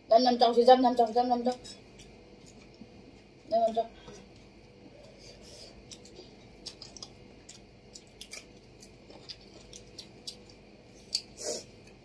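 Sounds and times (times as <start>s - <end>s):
people chewing with lip smacks: 1.5s - 12.0s.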